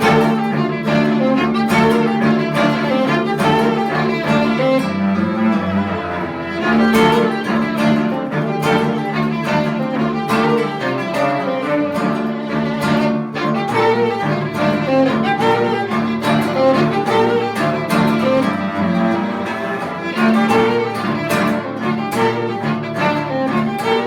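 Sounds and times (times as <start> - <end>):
bowed strings music: 0.0 - 24.0.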